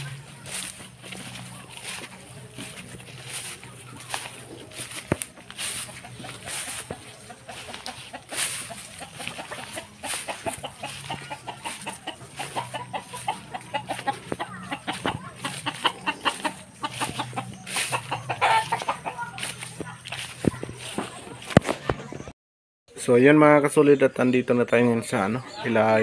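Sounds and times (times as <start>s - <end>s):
chickens clucking: 0.0s - 22.3s, 23.2s - 26.0s.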